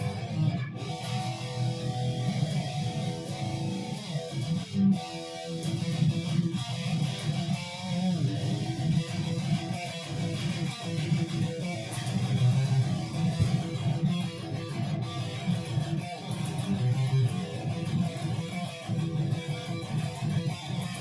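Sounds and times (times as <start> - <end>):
guitar playing notes and chords: 0.0 - 21.0.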